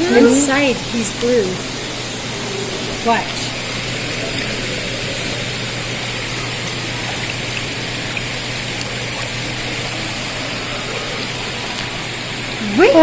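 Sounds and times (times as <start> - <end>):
constant low hum: 0.0 - 13.0
misting system hiss: 0.0 - 13.0.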